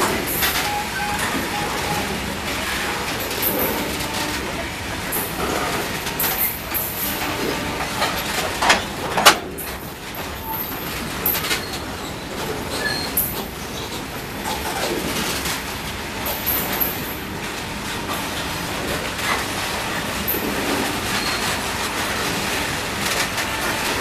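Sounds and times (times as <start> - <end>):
freight wagons rolling on rails: 0.0 - 24.0.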